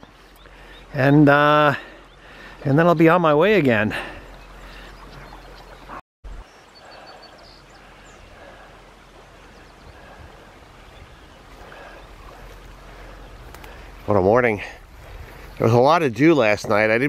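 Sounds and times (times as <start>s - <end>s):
rush of air and water: 0.0s - 16.6s.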